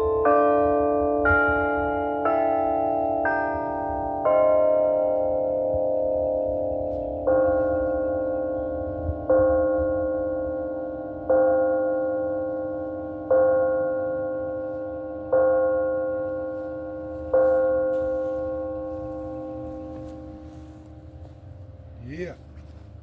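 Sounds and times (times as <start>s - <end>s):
church bell tolling: 0.0s - 22.1s.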